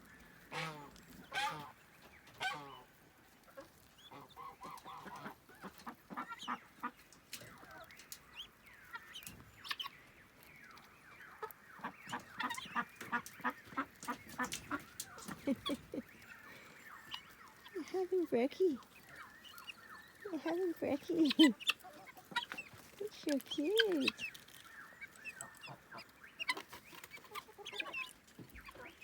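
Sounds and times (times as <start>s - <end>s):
chicken clucking: 0.4s - 29.0s.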